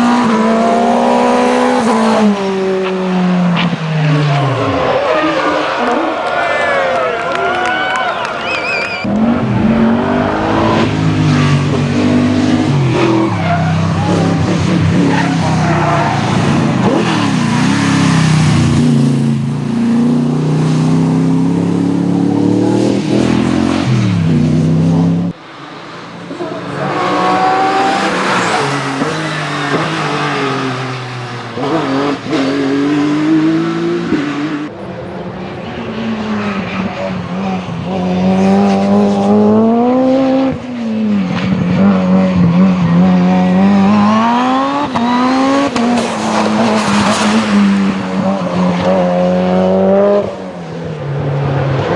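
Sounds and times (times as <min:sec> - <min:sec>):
race car engines shifting gears: 0:08.1 - 0:51.9.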